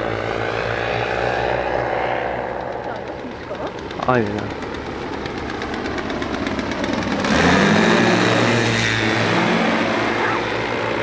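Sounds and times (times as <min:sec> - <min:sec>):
motorized trike engine passing overhead: 0:00.0 - 0:11.0.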